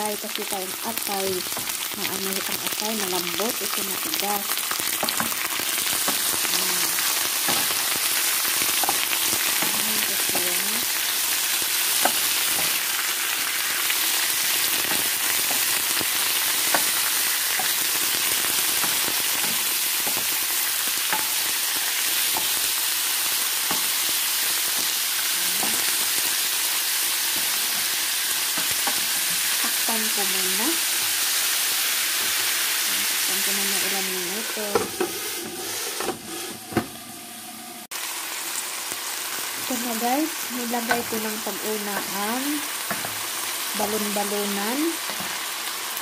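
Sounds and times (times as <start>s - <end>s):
food sizzling in a frying pan: 0.0s - 46.0s.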